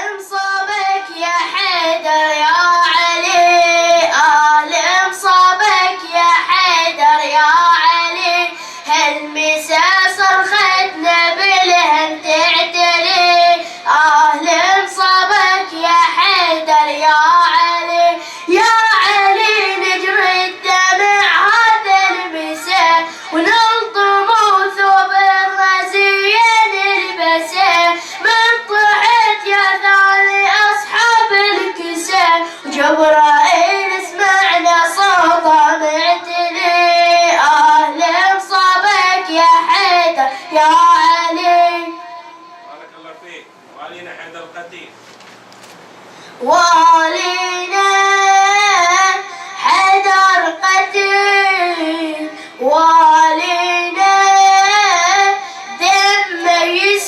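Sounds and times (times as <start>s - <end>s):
boy chanting in high voice: 0.0s - 43.4s, 46.4s - 57.0s.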